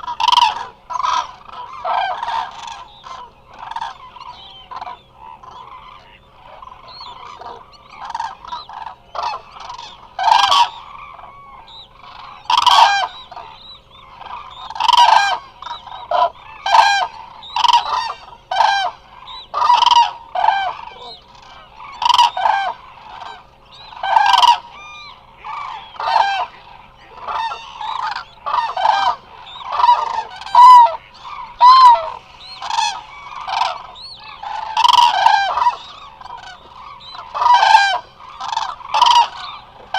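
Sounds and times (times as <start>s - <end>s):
cranes trumpeting: 0.0s - 39.9s.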